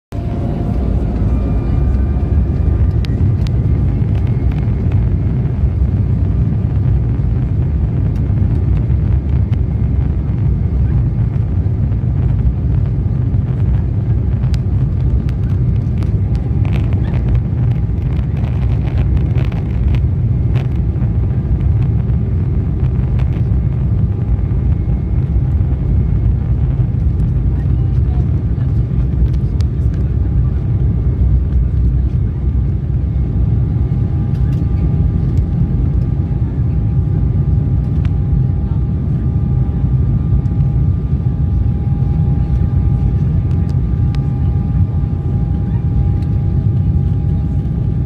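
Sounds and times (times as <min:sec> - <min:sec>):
jet engines rumbling: 0:00.1 - 0:48.0.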